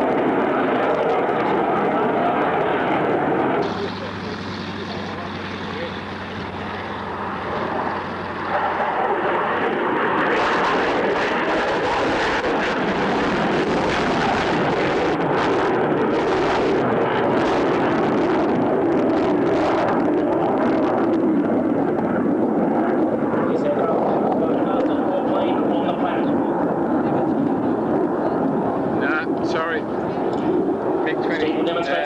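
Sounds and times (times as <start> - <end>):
jet aircraft engine roar: 0.0 - 32.0.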